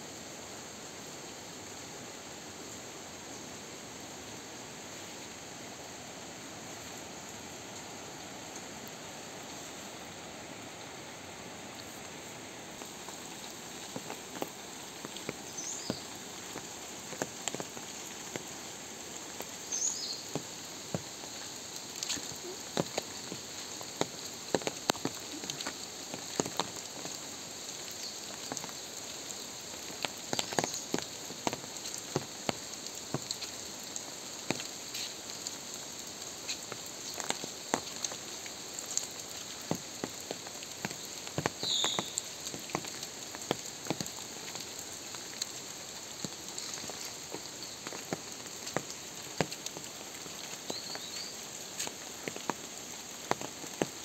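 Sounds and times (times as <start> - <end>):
rain on leaves and pavement: 0.0 - 54.0.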